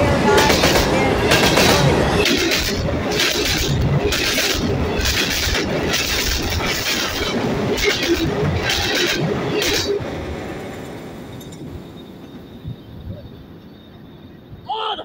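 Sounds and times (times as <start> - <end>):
rushing clatter of train cars: 0.0 - 14.6
train rumbling overhead: 0.0 - 15.0.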